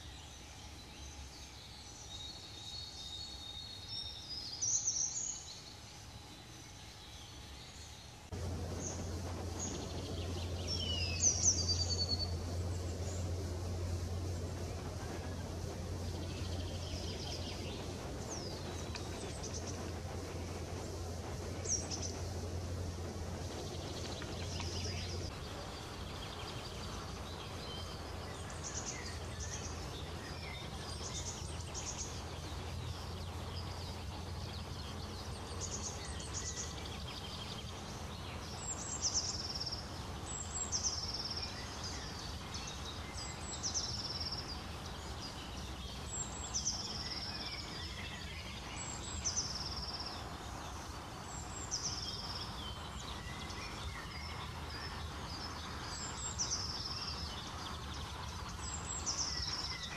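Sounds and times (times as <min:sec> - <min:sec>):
low background hum: 0:00.0 - 0:59.9
songbirds singing: 0:00.0 - 0:59.9.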